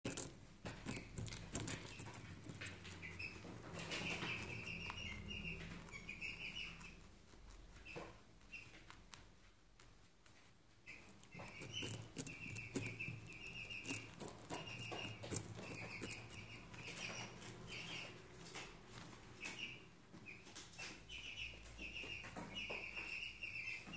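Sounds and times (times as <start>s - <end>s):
rabbit crunching carrot: 0.0s - 19.7s.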